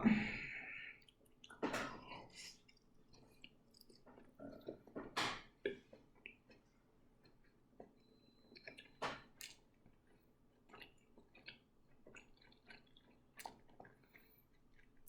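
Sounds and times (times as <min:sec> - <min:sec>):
person chewing: 0:01.0 - 0:15.0.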